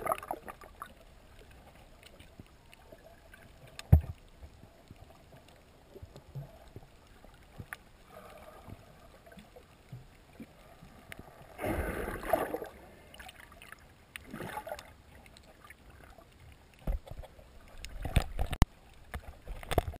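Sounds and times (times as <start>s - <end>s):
rush of water: 0.0s - 4.6s, 5.4s - 20.0s
faint underwater water noise: 0.0s - 20.0s.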